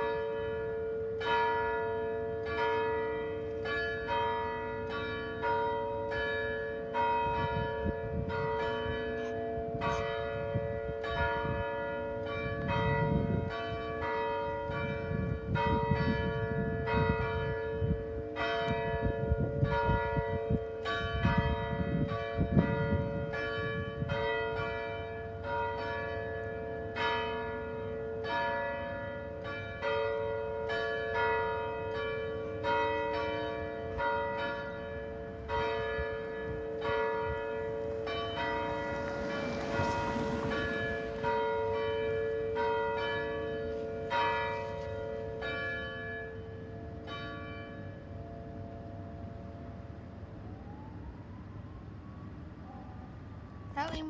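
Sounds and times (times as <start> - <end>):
church bells pealing: 0.0 - 50.3.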